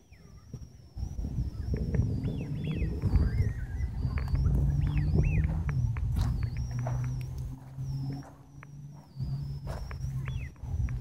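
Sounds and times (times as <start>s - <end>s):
low rumbling noise: 0.0s - 11.0s
small birds chirping: 0.0s - 11.0s
thin steady high tone: 0.0s - 11.0s.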